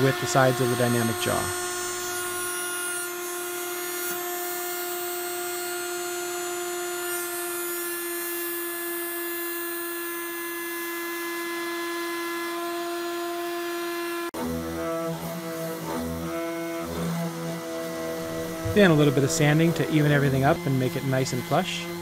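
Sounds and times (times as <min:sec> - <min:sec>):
router whining: 0:00.0 - 0:22.0.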